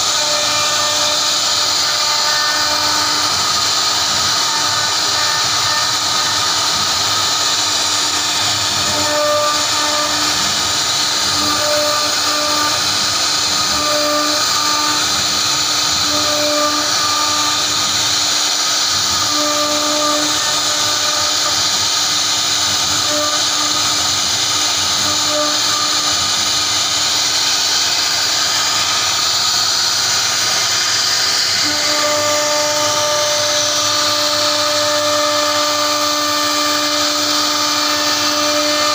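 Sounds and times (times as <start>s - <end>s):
cnc router carving wood: 0.0s - 38.9s.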